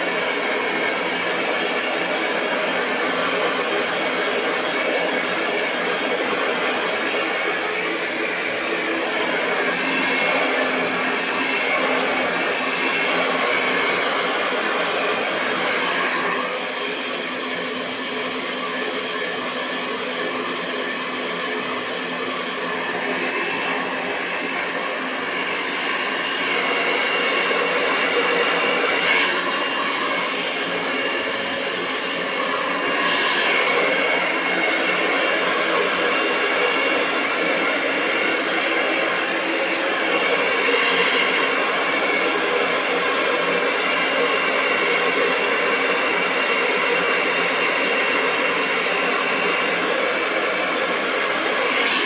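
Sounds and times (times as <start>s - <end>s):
hair dryer running: 0.0s - 52.0s.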